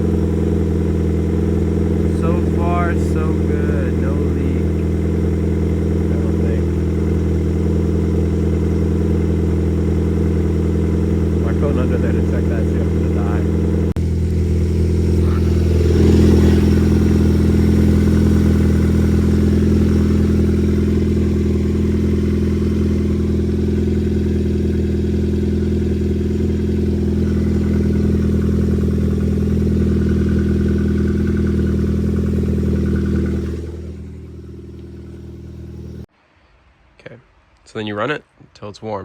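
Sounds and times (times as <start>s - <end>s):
car engine running: 0.0s - 36.1s.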